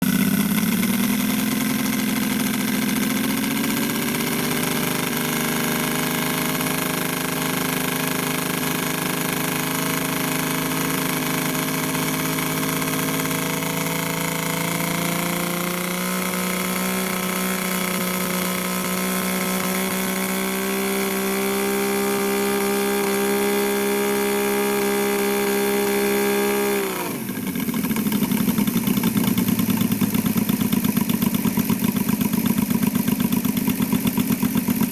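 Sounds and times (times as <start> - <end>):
model airplane engine running: 0.0 - 34.9.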